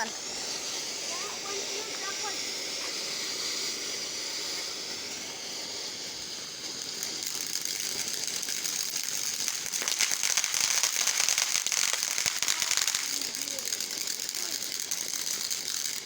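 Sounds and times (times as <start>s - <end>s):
firework hissing and crackling: 0.0s - 16.0s.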